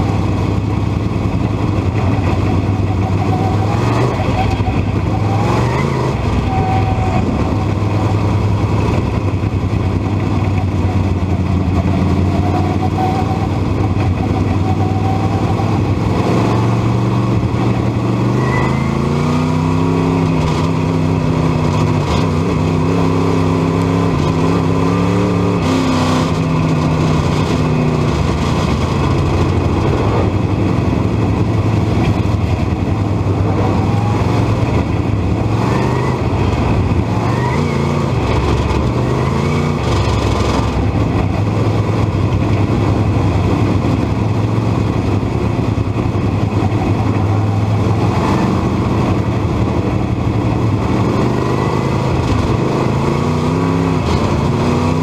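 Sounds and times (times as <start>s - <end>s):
higher engine note climbing: 0.0s - 55.0s
race car engine running hard: 0.0s - 55.0s.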